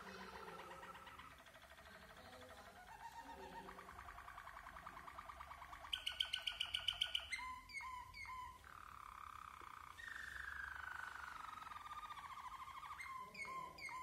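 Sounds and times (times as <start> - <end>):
canary singing rolled notes: 0.0 - 14.0.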